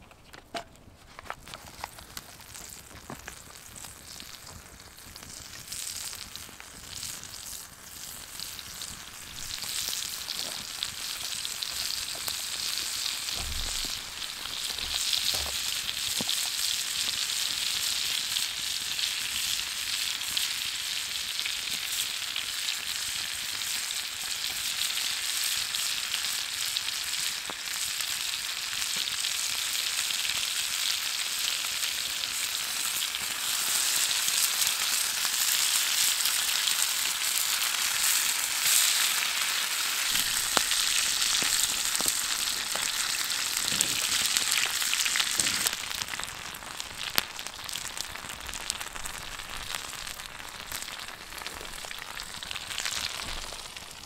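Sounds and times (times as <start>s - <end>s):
meat frying: 1.3s - 54.0s
butter sizzling in a frying pan: 1.4s - 54.0s.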